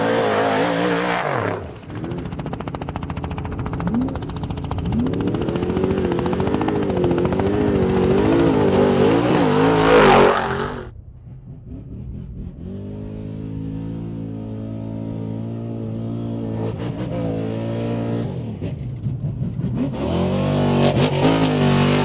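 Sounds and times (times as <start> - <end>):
truck engine revving high: 0.0 - 2.6, 3.8 - 22.0
truck passing with rushing burst: 0.0 - 22.0.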